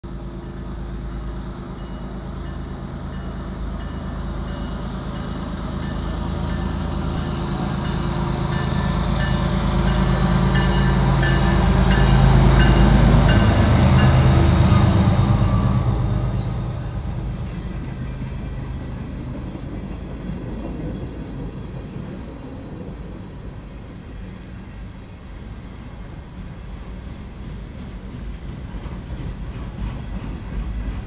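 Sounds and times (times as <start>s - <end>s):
diesel locomotive rumbling: 0.0s - 31.0s.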